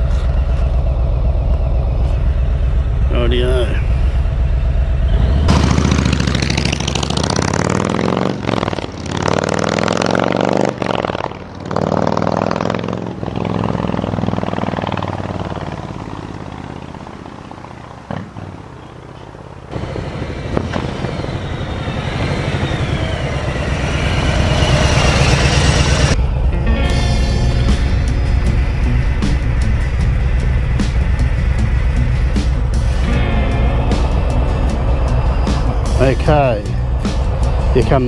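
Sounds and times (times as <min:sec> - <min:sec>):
motorcycle accelerating: 0:00.0 - 0:38.0.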